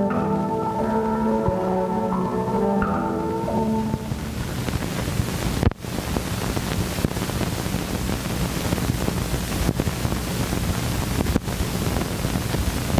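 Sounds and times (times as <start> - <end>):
film soundtrack hiss and rumble: 0.0 - 12.9.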